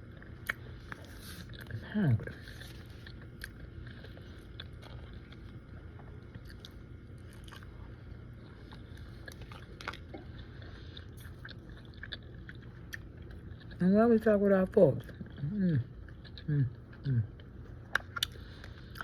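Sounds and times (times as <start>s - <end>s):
person chewing food: 0.0s - 13.8s, 15.0s - 19.0s
faint low hum: 0.0s - 19.0s.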